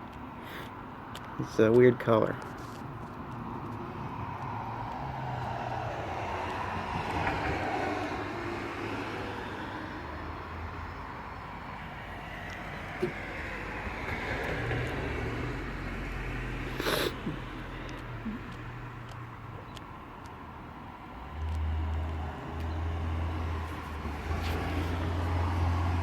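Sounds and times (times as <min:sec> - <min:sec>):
distant traffic engine noise: 0:00.0 - 0:26.0.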